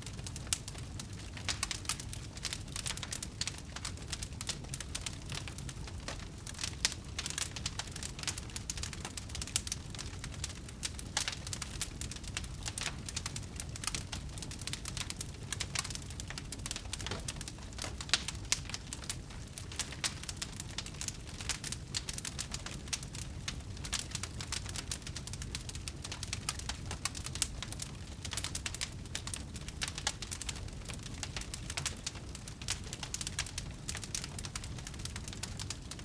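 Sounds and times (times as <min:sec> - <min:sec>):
low rumble of flame: 0:00.0 - 0:36.0
wood fire crackling: 0:00.0 - 0:36.0.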